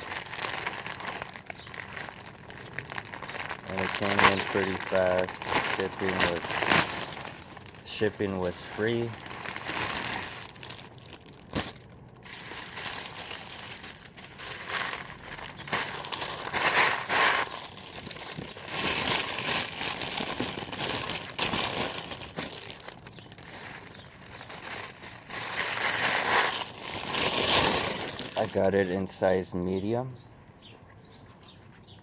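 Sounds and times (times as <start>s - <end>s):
packaging crinkling and rustling: 0.0s - 29.2s.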